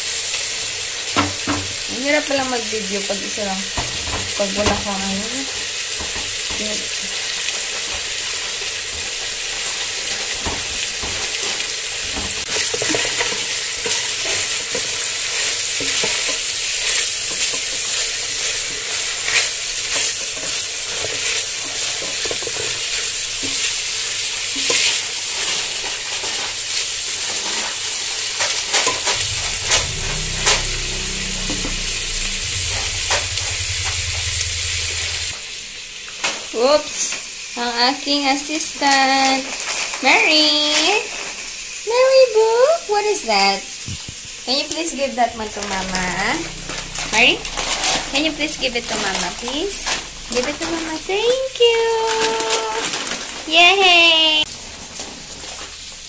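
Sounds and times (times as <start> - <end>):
food sizzling in a pot: 0.0 - 56.0.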